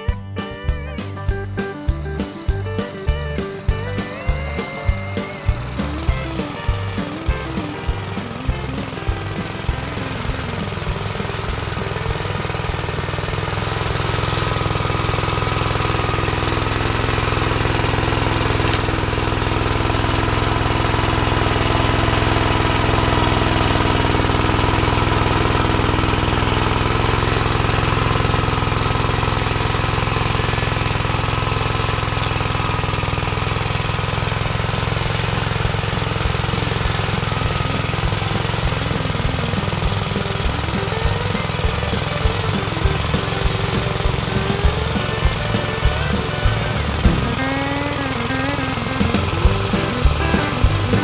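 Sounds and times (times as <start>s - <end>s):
small engine running under load: 0.0s - 51.0s.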